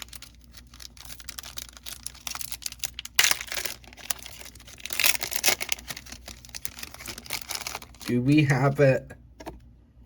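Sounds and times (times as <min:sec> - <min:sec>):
foil wrapper ripping: 0:00.0 - 0:08.2
foil wrapper crinkling: 0:00.0 - 0:08.7.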